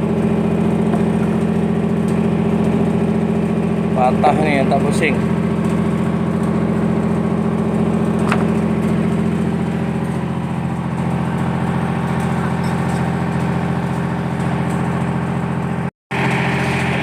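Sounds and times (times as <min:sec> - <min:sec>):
large engine idling: 0:00.0 - 0:17.0.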